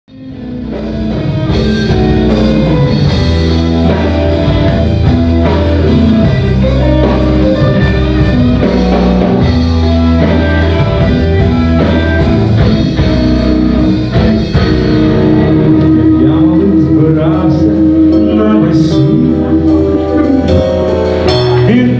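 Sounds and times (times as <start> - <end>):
bass guitar: 0.0 - 21.9
drum kit: 0.1 - 21.9
electric guitar: 0.1 - 21.9.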